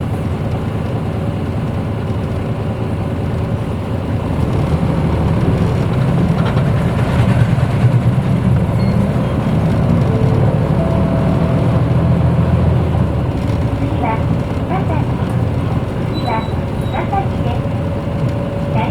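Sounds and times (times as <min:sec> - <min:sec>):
bus engine drone: 0:00.0 - 0:18.9.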